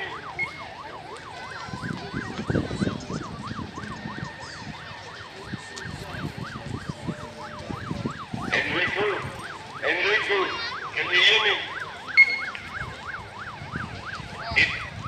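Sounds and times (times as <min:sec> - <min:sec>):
police siren yelping: 0:00.0 - 0:15.0.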